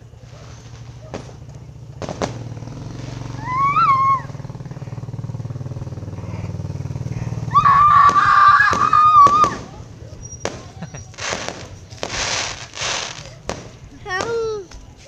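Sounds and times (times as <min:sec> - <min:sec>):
fireworks cracking: 0:00.0 - 0:15.0.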